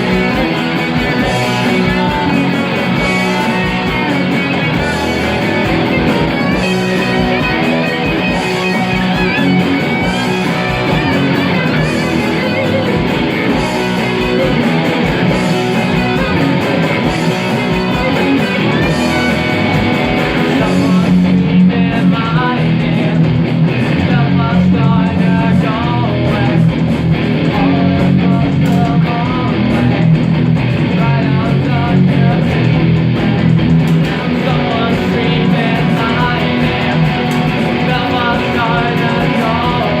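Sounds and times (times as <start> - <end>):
instrumental guitar music: 0.0 - 40.0.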